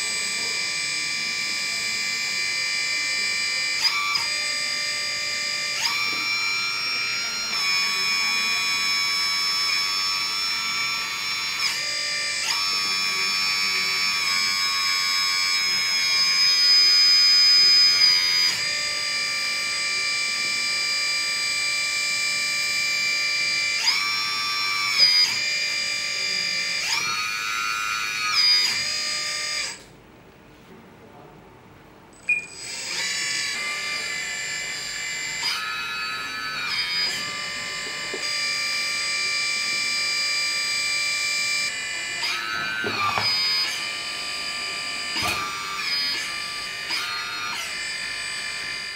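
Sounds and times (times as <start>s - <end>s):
electric hydraulic pump whining: 0.0s - 30.0s, 32.2s - 48.9s.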